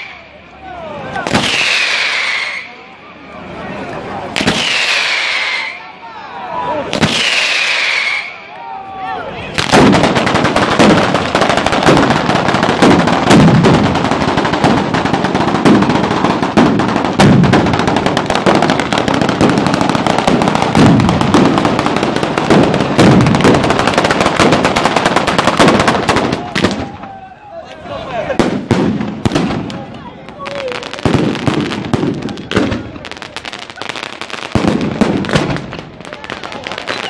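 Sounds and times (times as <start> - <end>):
firecrackers crackling: 0.0 - 5.8, 6.7 - 8.7, 9.5 - 37.0
heavy firework bangs: 1.2 - 2.7, 4.3 - 5.8, 6.9 - 8.3, 9.6 - 27.1, 28.3 - 37.0.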